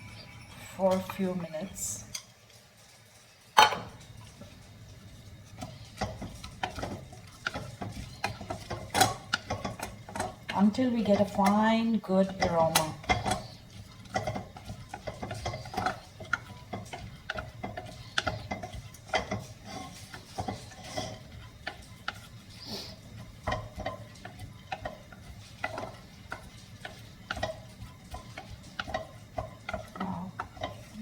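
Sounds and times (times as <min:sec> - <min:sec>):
spoon scraping rice in a pan: 0:05.2 - 0:11.7, 0:12.3 - 0:31.0.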